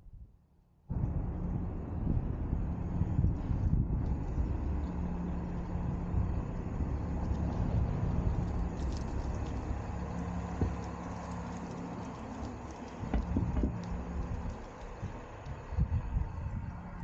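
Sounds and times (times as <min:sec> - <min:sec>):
low hum of vehicle engines: 0:00.0 - 0:17.0.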